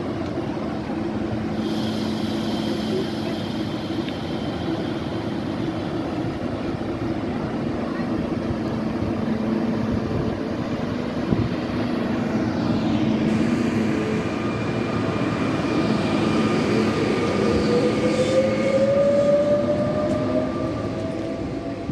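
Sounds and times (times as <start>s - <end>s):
electric train running hum: 0.0s - 21.9s.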